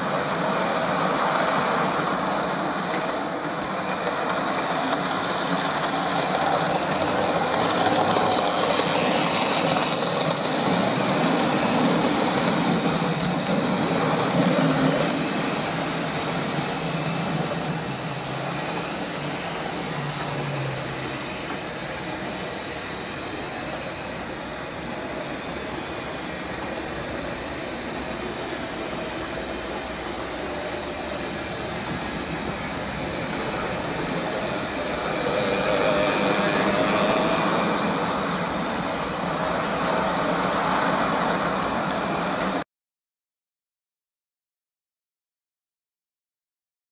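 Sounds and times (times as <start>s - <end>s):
wheels rattling over track: 0.0s - 42.6s
model train motor humming: 2.9s - 41.4s.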